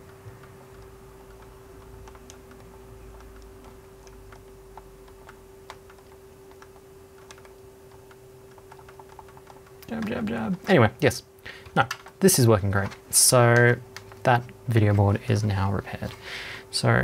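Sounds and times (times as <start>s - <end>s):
computer keyboard keys clicking: 0.0s - 15.3s
steady low hum: 0.0s - 17.0s.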